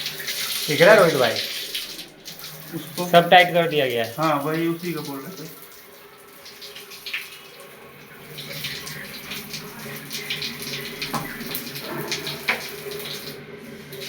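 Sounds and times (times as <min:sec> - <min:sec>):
tap water running: 0:00.0 - 0:14.0.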